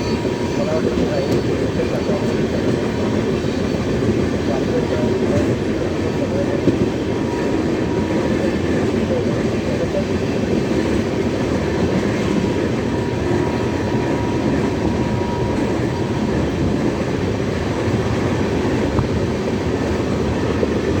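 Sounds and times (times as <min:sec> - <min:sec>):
train running: 0:00.0 - 0:21.0.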